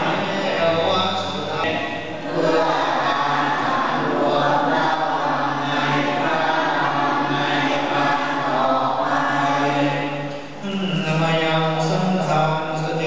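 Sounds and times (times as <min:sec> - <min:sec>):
group chanting in unison: 0:00.0 - 0:10.5.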